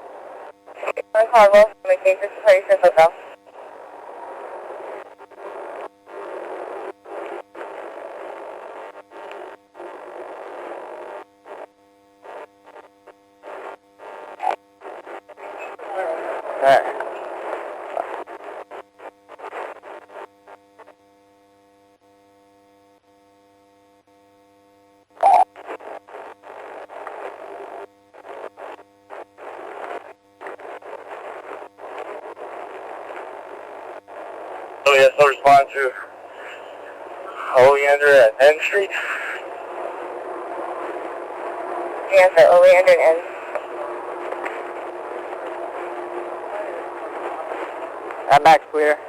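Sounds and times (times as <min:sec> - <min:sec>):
police radio static hiss: 0:00.0 - 0:20.3, 0:25.2 - 0:49.0.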